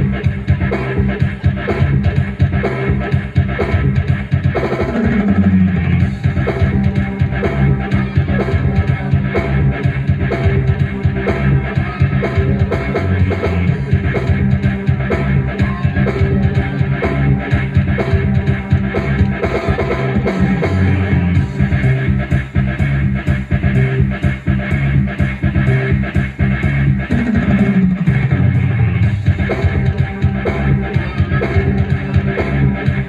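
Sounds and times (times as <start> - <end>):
keyboard rock accompaniment: 0.0 - 33.0.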